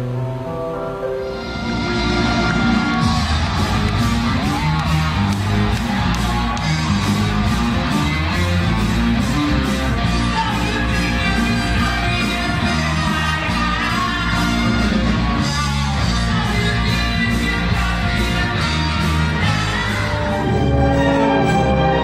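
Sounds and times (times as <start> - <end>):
rock band with orchestra: 0.0 - 22.0.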